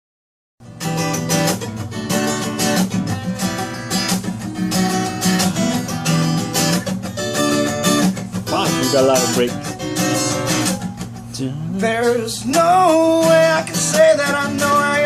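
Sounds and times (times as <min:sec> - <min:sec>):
acoustic guitar strumming: 0:00.6 - 0:15.0.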